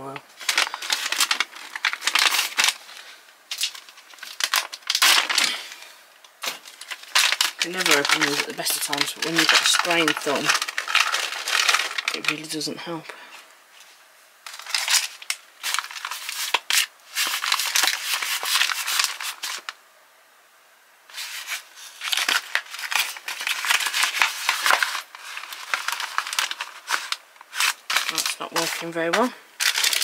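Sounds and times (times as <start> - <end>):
cardboard and pouch crinkling: 0.1 - 12.6, 14.4 - 19.7, 21.1 - 30.0.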